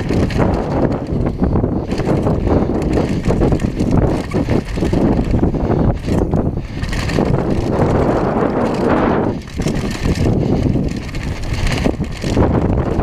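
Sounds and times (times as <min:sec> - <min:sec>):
bike rattling and knocking: 0:00.0 - 0:13.0
wind rush on microphone: 0:00.0 - 0:13.0.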